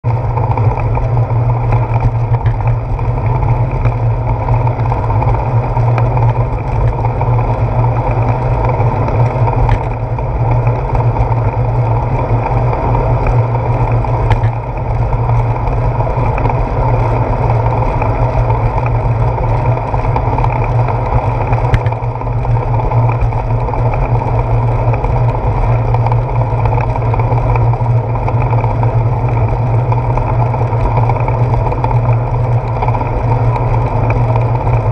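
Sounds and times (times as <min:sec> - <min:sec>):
bicycle road rumble: 0:00.0 - 0:34.9
wind noise: 0:00.0 - 0:34.9.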